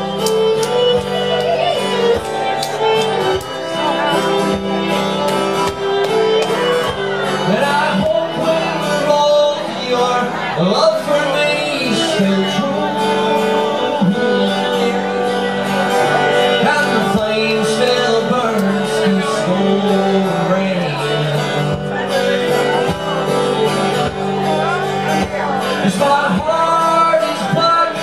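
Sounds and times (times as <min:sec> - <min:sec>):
fiddle: 0:00.0 - 0:28.0
strummed acoustic guitar: 0:00.0 - 0:28.0.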